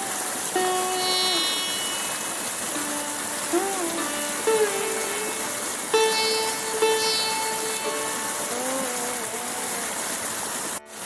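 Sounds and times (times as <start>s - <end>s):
soft instrumental music: 0.0s - 10.1s
mountain stream rushing: 0.0s - 11.0s.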